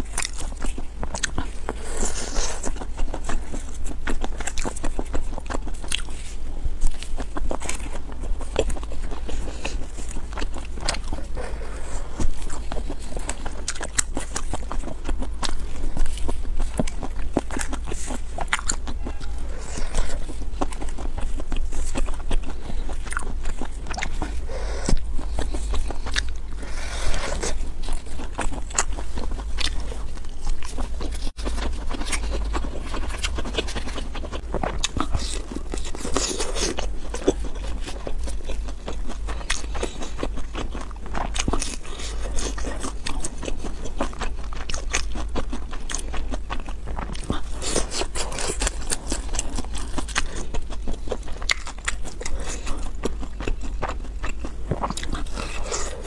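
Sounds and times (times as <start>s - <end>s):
crunching and chewing food: 0.0s - 56.0s.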